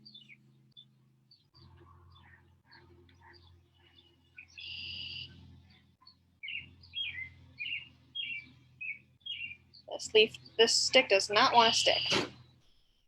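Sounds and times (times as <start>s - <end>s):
birds chirping and singing: 0.0s - 12.7s
steady low hum: 0.0s - 12.8s.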